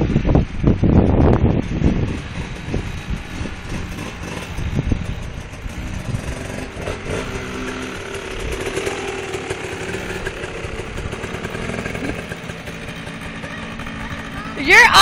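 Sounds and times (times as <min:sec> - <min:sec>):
dirt bike engines at low speed: 0:00.0 - 0:15.0.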